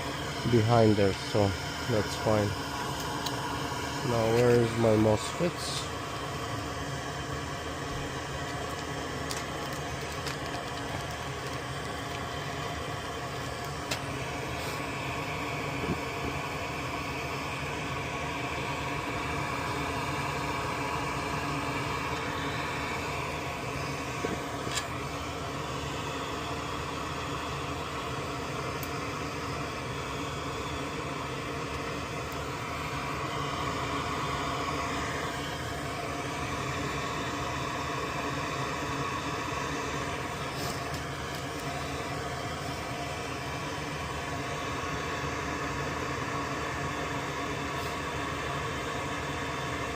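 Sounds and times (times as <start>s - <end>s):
fan whirring hum: 0.0s - 49.9s.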